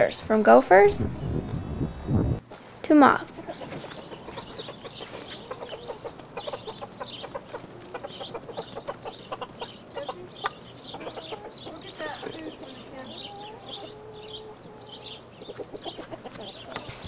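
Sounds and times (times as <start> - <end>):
chickens clucking: 3.1 - 17.0.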